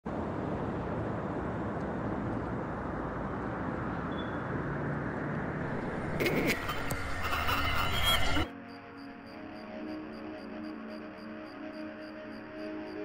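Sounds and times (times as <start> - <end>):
low rumble of city traffic: 0.0 - 13.0.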